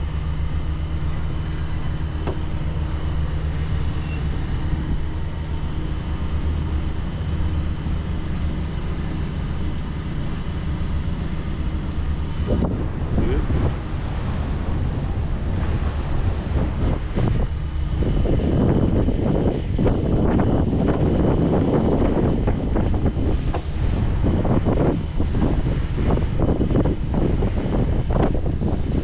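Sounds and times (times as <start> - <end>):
marine diesel engines humming: 0.0 - 29.0.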